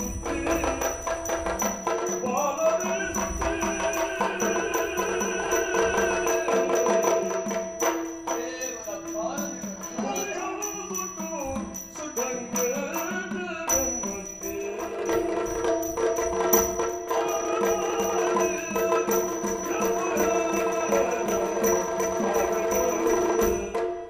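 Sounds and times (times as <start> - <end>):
person singing: 0.0 - 15.6, 17.0 - 23.9
hand drum strokes: 0.0 - 24.0.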